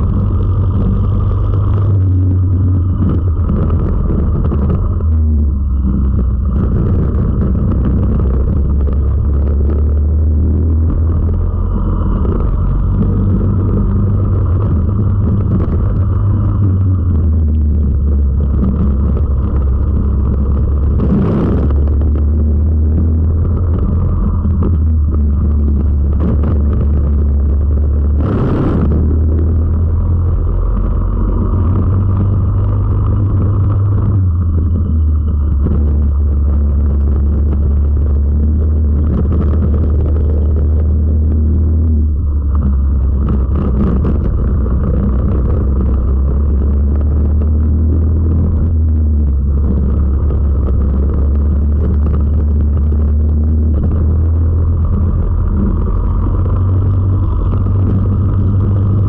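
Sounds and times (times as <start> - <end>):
racing kart engine droning: 0.0 - 59.0
wind on microphone: 0.0 - 59.0.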